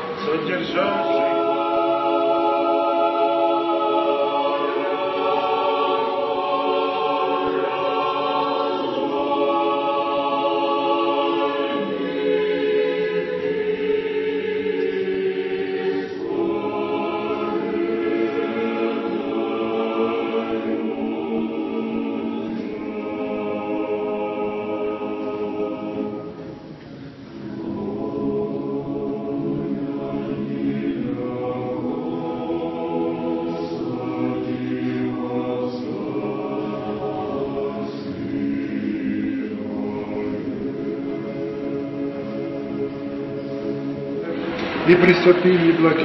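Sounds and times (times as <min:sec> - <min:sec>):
church choir chanting: 0:00.0 - 0:46.0.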